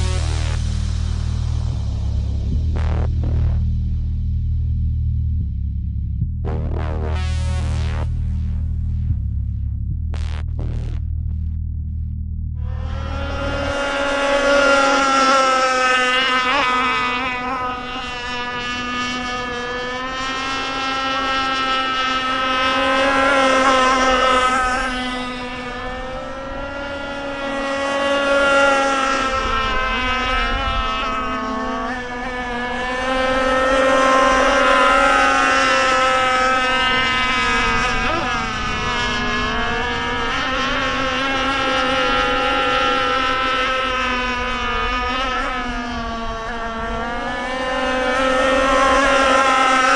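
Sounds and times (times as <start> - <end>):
rc boat motor high-pitched drone: 0.0 - 3.9, 6.5 - 9.2, 12.6 - 49.9.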